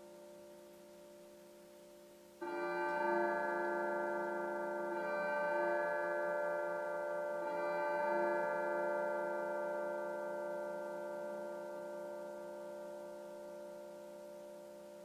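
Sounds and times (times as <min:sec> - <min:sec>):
soft sustained instrumental chord: 0:00.0 - 0:15.0.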